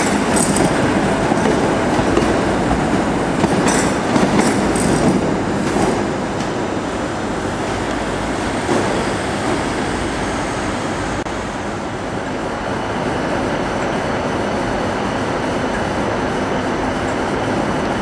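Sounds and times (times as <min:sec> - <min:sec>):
diesel train pulling out: 0:00.0 - 0:18.0.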